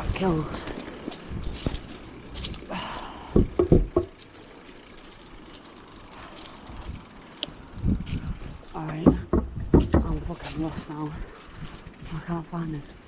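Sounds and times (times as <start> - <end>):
bicycle knocking and rattling: 0.0 - 13.0
bicycle rolling over paving: 0.0 - 13.0.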